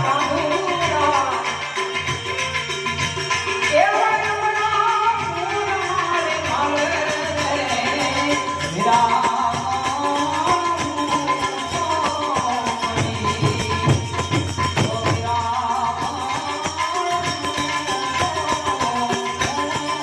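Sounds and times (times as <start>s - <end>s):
devotional folk music: 0.0s - 20.0s.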